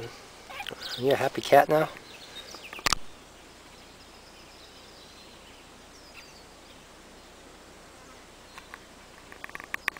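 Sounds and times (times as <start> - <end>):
outdoor background noise: 0.0 - 9.9.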